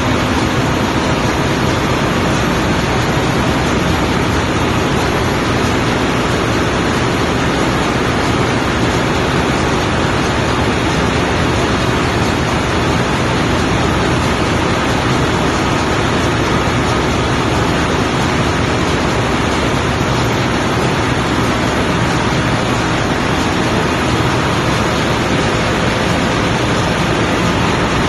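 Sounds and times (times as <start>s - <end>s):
engine-room machinery rushing: 0.0s - 28.0s.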